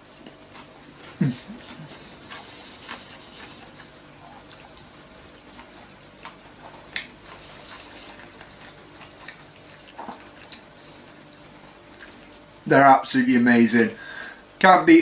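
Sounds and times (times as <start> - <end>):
person chewing food: 0.0 - 12.6.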